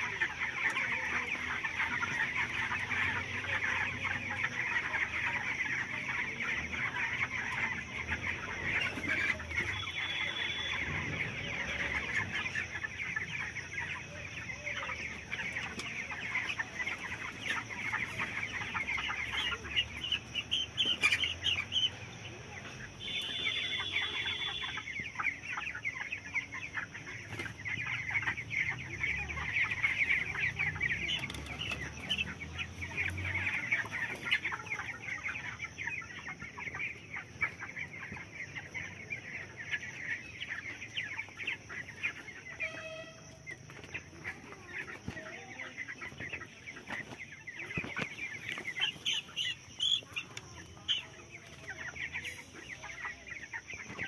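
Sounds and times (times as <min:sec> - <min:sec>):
chicks cheeping: 0:00.0 - 0:54.0.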